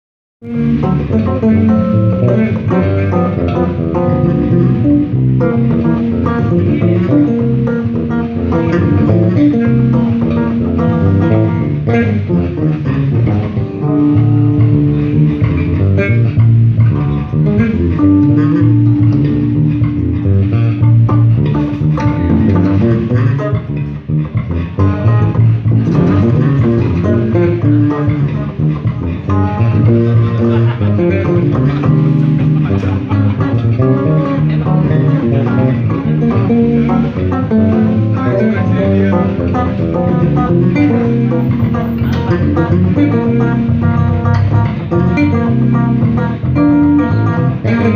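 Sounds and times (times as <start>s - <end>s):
electric bass guitars jamming: 0.4s - 47.9s.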